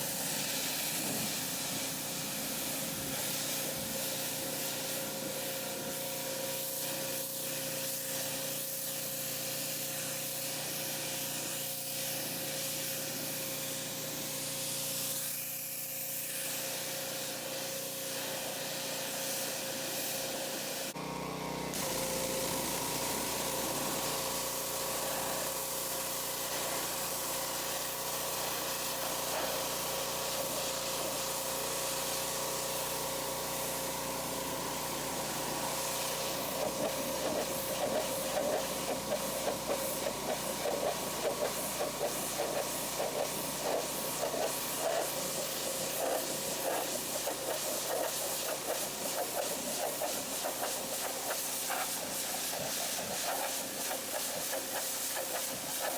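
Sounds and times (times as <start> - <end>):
pressure washer spraying: 0.0 - 55.9.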